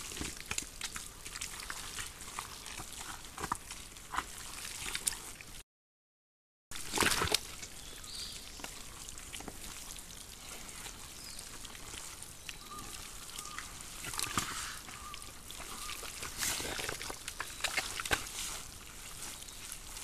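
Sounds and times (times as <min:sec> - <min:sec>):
mud squelching and splattering: 0:00.0 - 0:05.6, 0:06.7 - 0:20.0
pigs rooting in mud: 0:00.0 - 0:05.6, 0:06.7 - 0:20.0.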